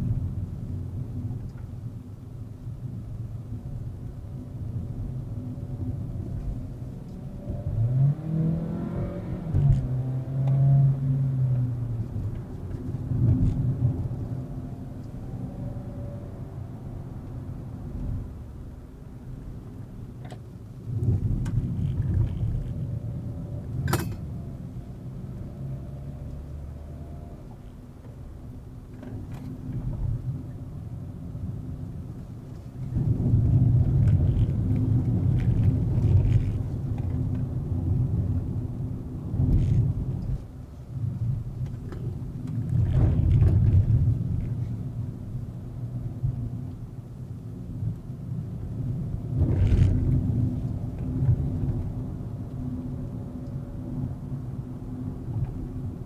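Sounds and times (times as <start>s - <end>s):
car engine and road noise rumble: 0.0s - 56.0s.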